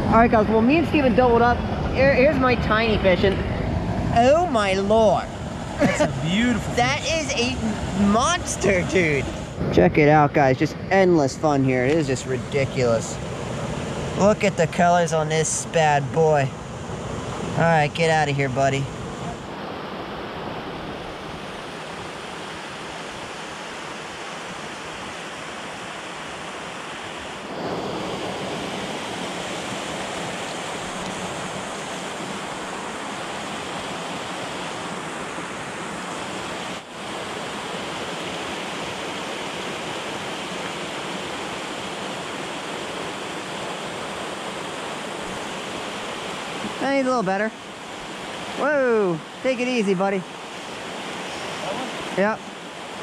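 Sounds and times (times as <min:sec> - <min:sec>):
stream rushing over rocks: 0:00.0 - 0:09.6, 0:11.1 - 0:53.0.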